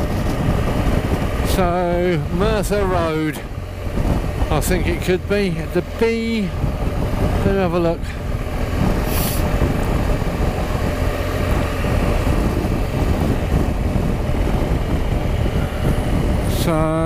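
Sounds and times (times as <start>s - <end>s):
motorcycle engine running: 0.0s - 17.0s
road noise: 0.0s - 17.0s
wind rushing over microphone: 0.0s - 17.0s.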